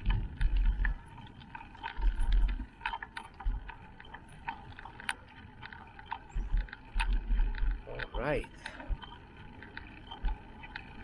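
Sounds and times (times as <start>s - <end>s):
light clicks and rattles: 0.0s - 11.0s
wind buffeting microphone: 0.0s - 11.0s.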